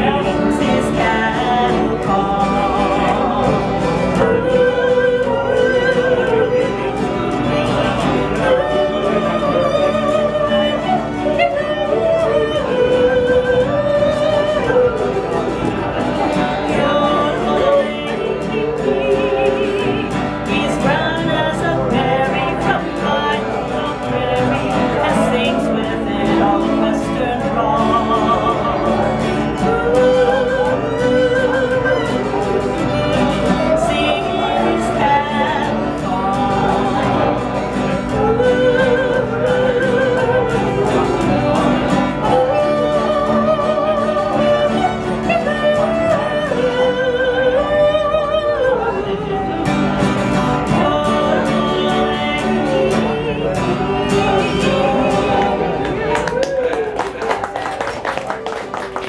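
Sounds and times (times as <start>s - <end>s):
bowed fiddle: 0.0s - 55.7s
woman singing: 0.0s - 57.4s
strummed mandolin: 0.0s - 59.0s.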